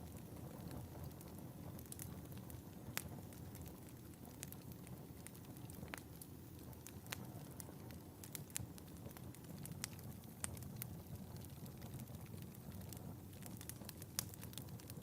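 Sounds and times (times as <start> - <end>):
fire flames rumbling: 0.0 - 15.0
wood fire crackling and popping: 0.0 - 15.0.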